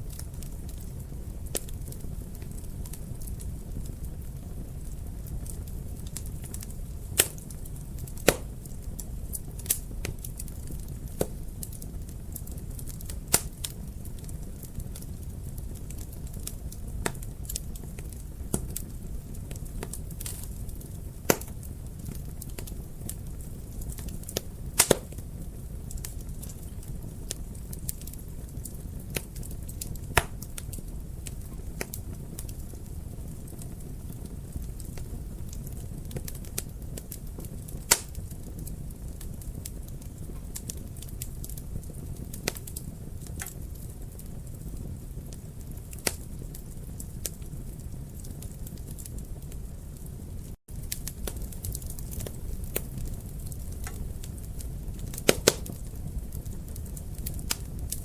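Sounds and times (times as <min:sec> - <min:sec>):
low rumble of flames: 0:00.0 - 0:58.0
wood fire pops and snaps: 0:00.0 - 0:58.0.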